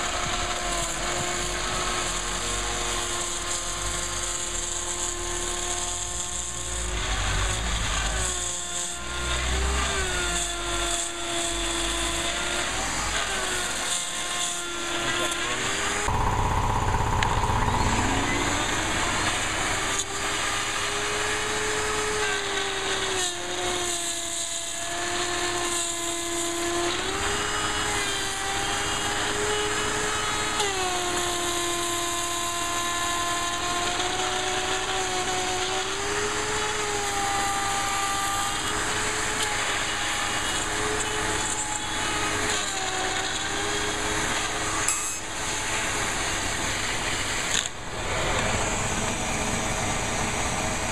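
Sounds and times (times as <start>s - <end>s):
trim router whining: 0.0s - 50.9s.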